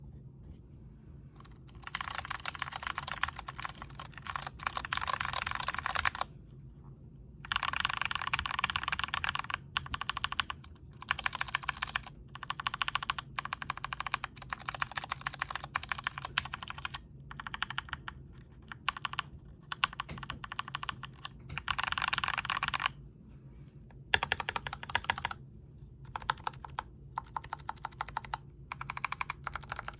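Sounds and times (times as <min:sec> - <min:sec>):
fast typing on mechanical keyboard: 0:01.4 - 0:06.3, 0:07.4 - 0:23.0, 0:24.1 - 0:25.4, 0:26.0 - 0:29.9.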